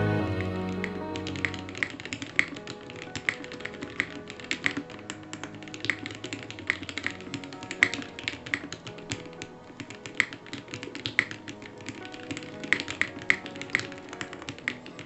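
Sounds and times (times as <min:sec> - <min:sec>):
background music: 0:00.0 - 0:15.0
mechanical keyboard typing: 0:00.8 - 0:15.0.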